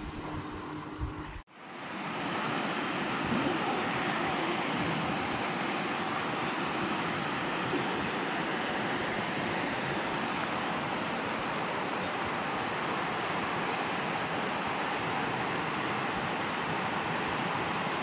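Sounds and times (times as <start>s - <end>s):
river rapids rushing: 1.6s - 18.0s.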